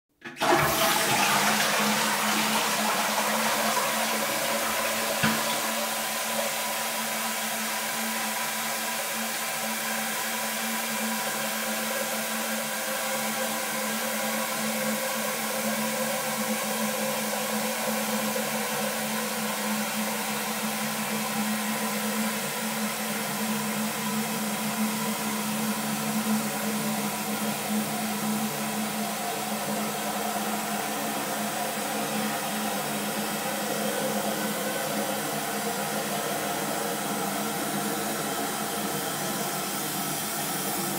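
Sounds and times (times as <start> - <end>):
toilet flushing: 0.1 - 40.9
cistern refilling with water hiss: 0.4 - 40.9.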